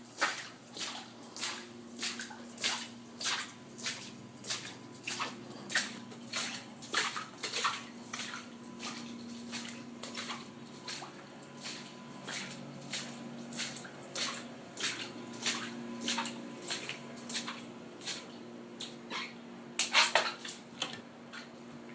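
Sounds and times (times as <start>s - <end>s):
low machine hum: 0.0s - 21.9s
water splashing and sloshing: 0.0s - 21.9s.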